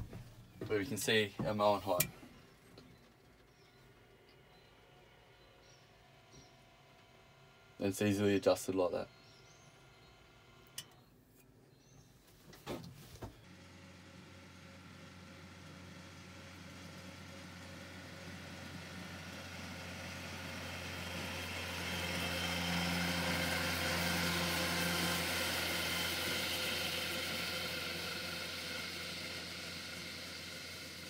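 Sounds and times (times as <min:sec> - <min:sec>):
tractor towing mower: 0:00.0 - 0:11.0, 0:13.4 - 0:31.0.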